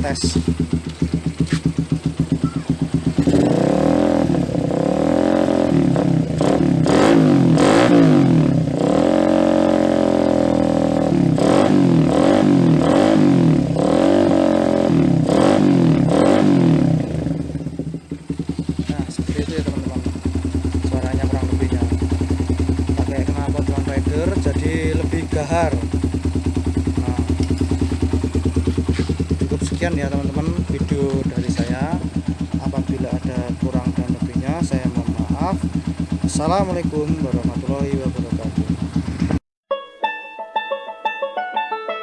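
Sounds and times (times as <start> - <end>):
motorcycle engine revving: 0.0 - 39.5.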